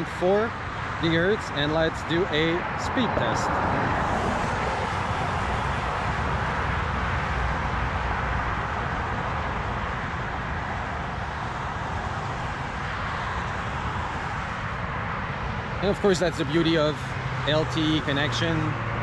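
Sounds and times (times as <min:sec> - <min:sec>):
highway traffic: 0:00.0 - 0:19.0.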